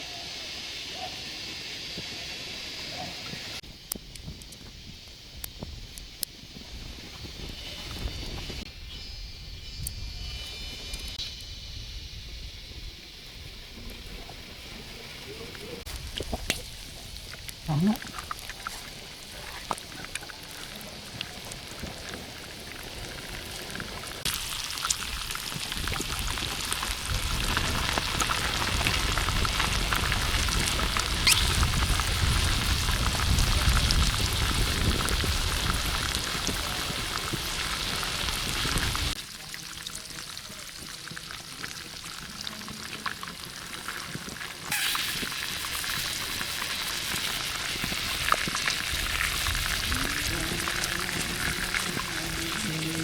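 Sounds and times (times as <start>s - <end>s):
hot oil sizzling and crackling: 0.0s - 53.0s.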